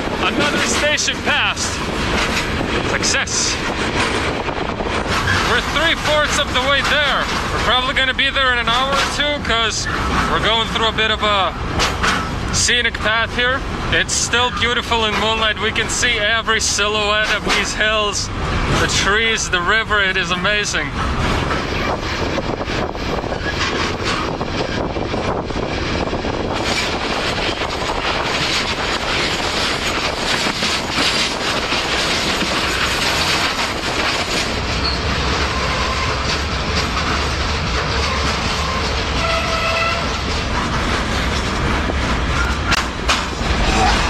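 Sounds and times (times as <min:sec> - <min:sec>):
freight train rumbling: 0:00.0 - 0:44.0
wheels clacking over rail joints: 0:00.0 - 0:44.0.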